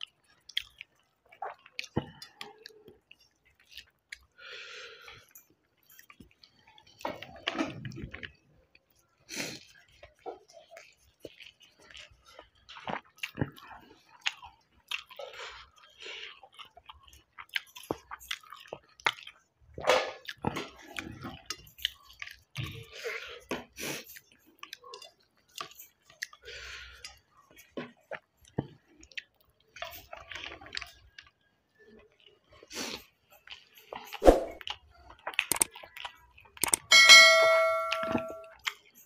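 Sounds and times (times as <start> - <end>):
wet chewing and smacking: 0.0 - 36.9.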